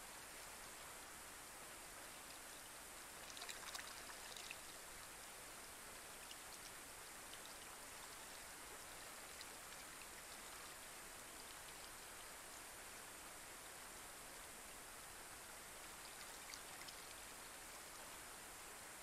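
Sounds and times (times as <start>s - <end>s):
rain falling on pond: 0.0s - 19.0s.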